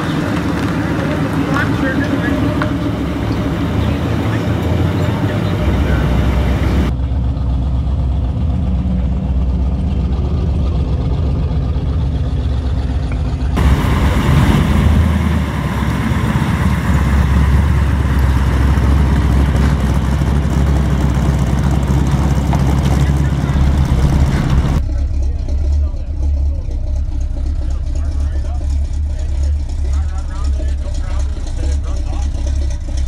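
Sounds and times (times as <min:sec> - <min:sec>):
car driving by close: 0:00.0 - 0:33.0
car engines rumbling: 0:00.0 - 0:33.0.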